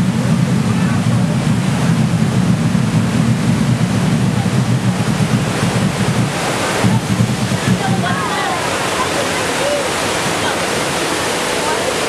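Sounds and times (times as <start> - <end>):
deep rumble: 0.0 - 11.0
rushing water: 0.0 - 12.0.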